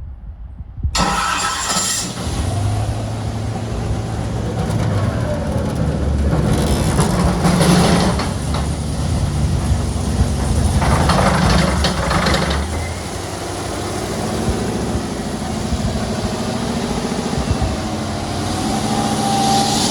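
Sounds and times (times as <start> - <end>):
engine revving and idling: 1.0 - 19.9.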